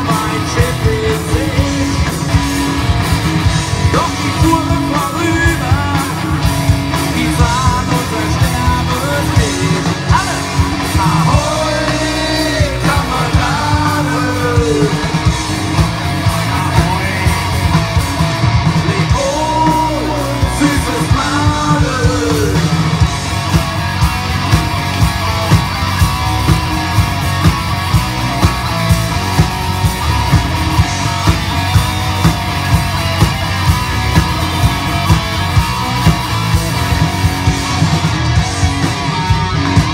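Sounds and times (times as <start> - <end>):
driving drum beat: 0.0 - 39.9
live rock band playing: 0.0 - 39.9.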